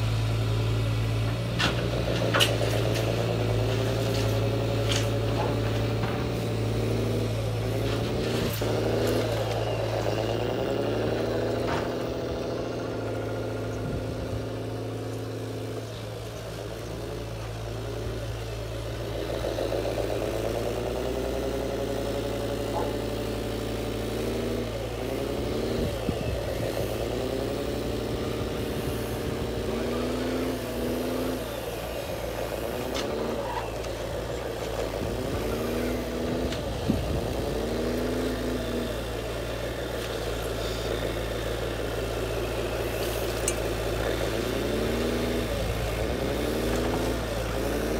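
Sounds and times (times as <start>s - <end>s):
hydraulic pump whining: 0.0s - 47.9s.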